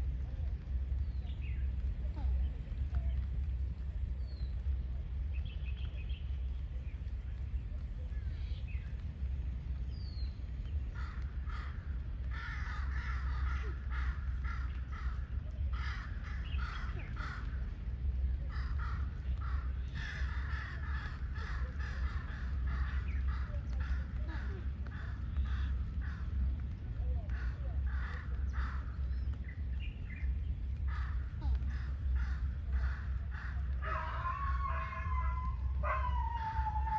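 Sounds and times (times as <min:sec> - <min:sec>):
steady low rumble: 0:00.0 - 0:36.9
birds harsh calls: 0:00.1 - 0:36.9.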